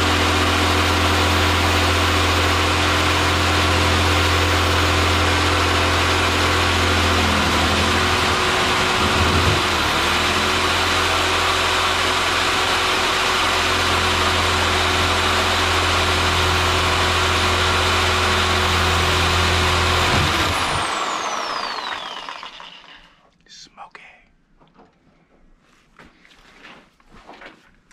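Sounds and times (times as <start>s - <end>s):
power tool motor whining: 0.0s - 23.2s.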